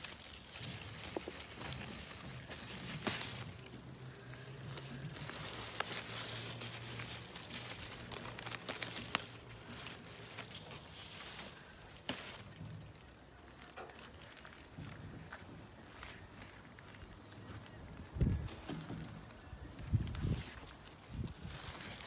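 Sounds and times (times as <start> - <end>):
leaves rustling: 0.0 - 22.0
low steady hum: 0.0 - 22.0.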